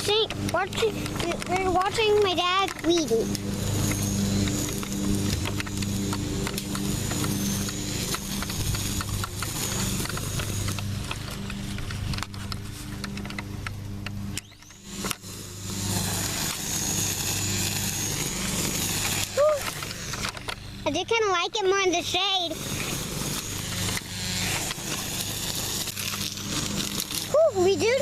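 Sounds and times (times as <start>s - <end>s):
string trimmer whining: 0.0s - 28.0s.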